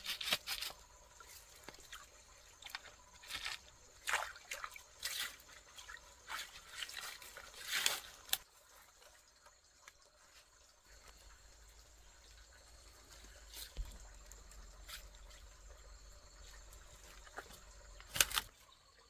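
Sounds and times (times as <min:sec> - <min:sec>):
water splashing and dripping: 0:00.0 - 0:19.0.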